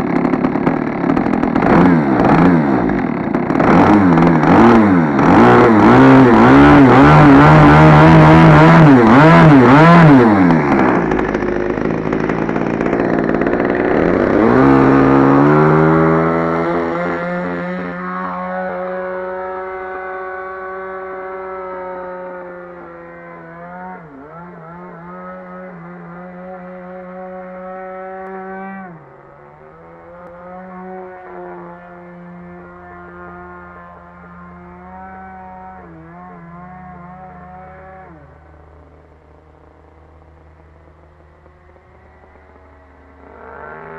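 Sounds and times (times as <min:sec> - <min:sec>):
model airplane engine in flight: 0:00.0 - 0:43.9.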